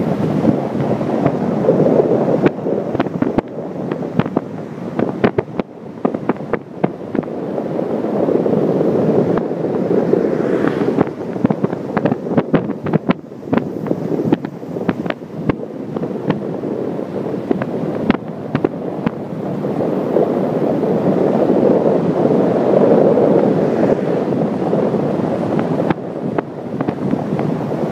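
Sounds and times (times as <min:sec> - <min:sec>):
wind rushing over microphone: 0:00.0 - 0:27.9.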